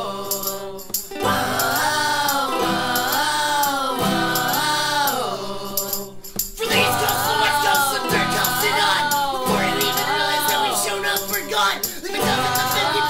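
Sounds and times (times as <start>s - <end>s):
person singing long notes: 0.0s - 13.0s.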